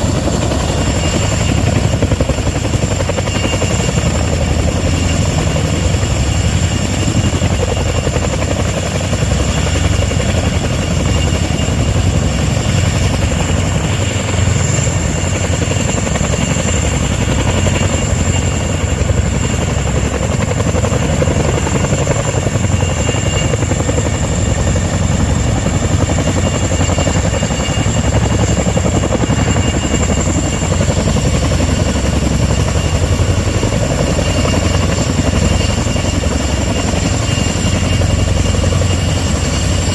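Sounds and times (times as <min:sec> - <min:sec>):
helicopter rotor beating: 0:00.0 - 0:39.9
high turbine whine: 0:00.0 - 0:39.9.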